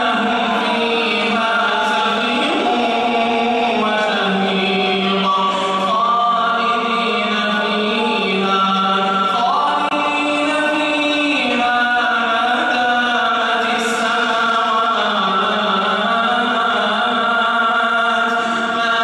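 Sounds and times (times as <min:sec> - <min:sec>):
man chanting recitation: 0:00.0 - 0:19.0.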